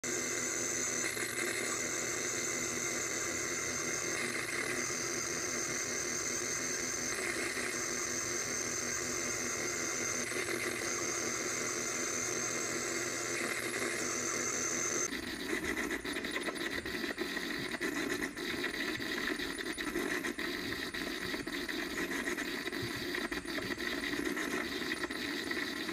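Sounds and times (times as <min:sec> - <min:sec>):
harsh crackling stuttering noise: 0:00.1 - 0:25.9.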